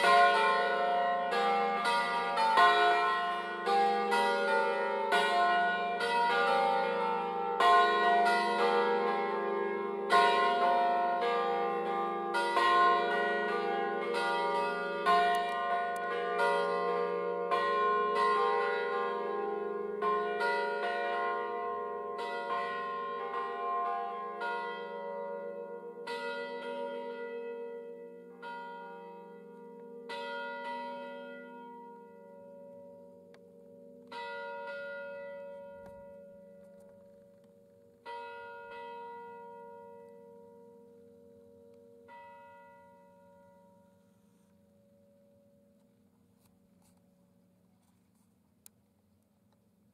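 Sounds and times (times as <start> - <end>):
swinging church bells pealing: 0.0 - 45.2.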